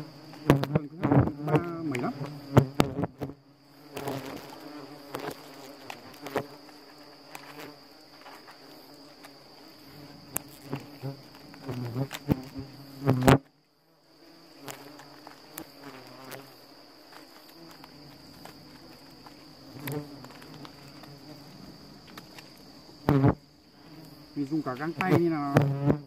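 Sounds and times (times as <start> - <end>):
hornets buzzing: 0.0 - 13.5, 14.1 - 26.0
high insect whine: 0.0 - 26.0.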